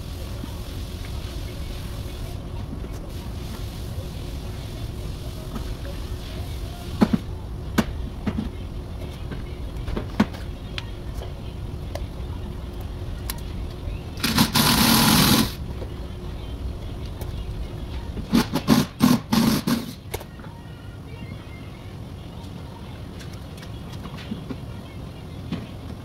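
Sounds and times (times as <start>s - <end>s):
low shop rumble: 0.0s - 26.0s.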